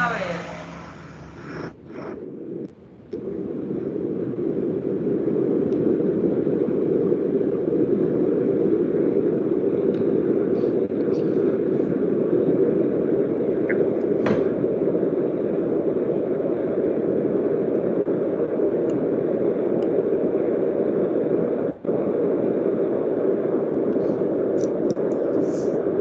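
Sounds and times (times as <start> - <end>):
steady dull noise: 0.0 - 26.0.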